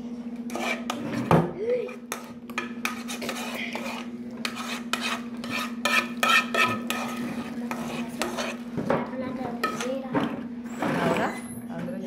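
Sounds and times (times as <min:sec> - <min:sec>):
utensil scraping and clinking dish: 0:00.5 - 0:11.6.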